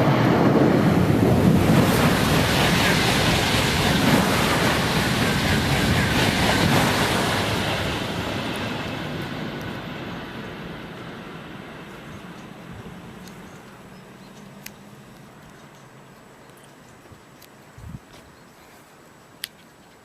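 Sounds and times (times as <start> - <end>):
train passing: 0.0 - 17.8.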